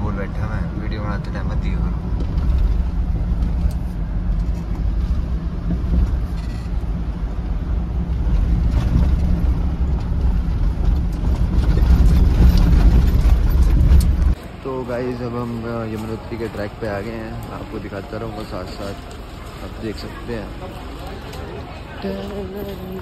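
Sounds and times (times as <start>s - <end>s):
engine and tyres rumbling on gravel: 0.0s - 23.0s.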